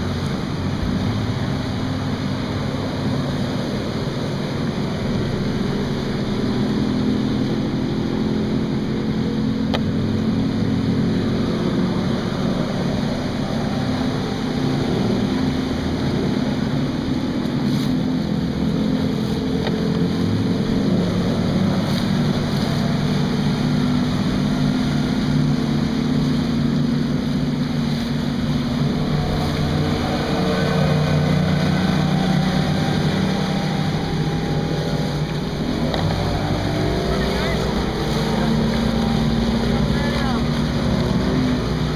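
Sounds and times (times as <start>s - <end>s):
outboard motors passing at speed: 0.0s - 41.9s.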